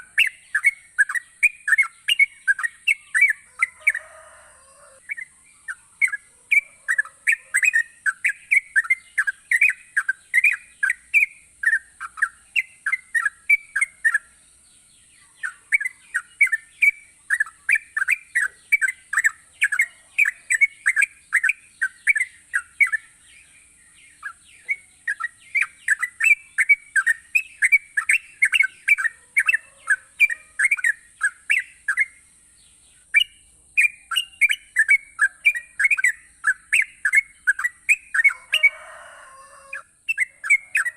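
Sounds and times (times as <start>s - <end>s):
bird singing bubbling chirps: 0.0s - 4.0s, 4.7s - 38.4s.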